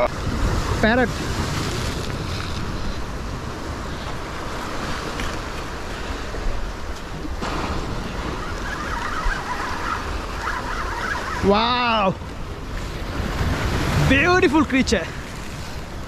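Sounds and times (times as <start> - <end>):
surf washing up beach: 0.0 - 16.0
wind rumbling on microphone: 0.0 - 16.0.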